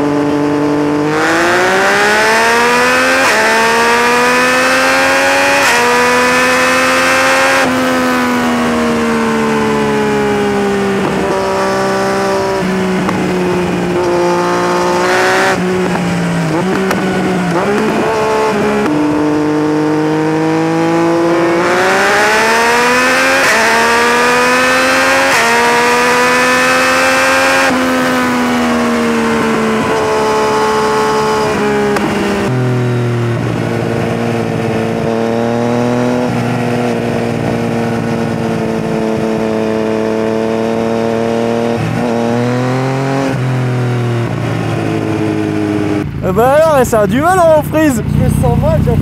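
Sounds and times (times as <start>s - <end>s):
motorcycle engine at high speed: 0.0s - 49.0s.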